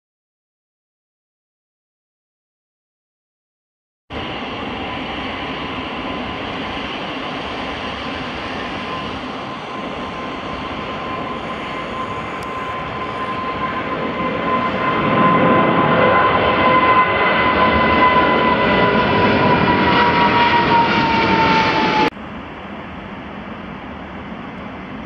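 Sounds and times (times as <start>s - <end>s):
jet engine noise with high whine: 4.1s - 25.0s.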